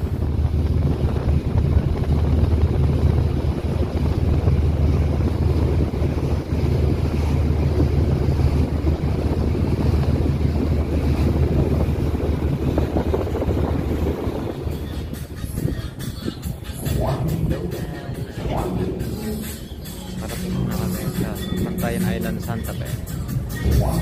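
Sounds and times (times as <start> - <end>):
sea washing past hull: 0.0 - 24.0
ship engines low rumble: 0.0 - 24.0
wind buffeting microphone: 0.0 - 24.0.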